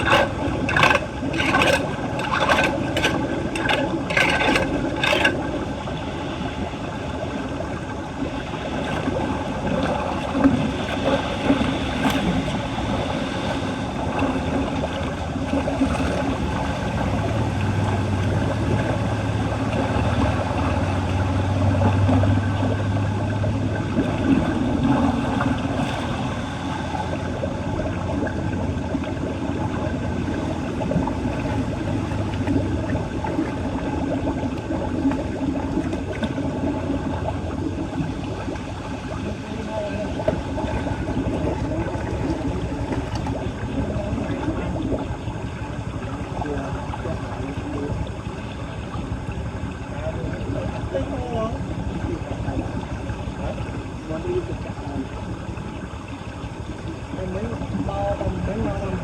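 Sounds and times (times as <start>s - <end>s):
low steady hum: 0.0s - 59.0s
water rushing down storm drain: 0.0s - 59.0s.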